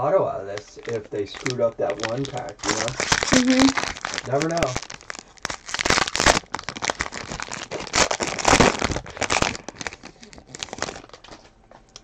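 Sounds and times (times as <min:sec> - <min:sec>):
foil wrapper crinkling: 0:00.6 - 0:11.5.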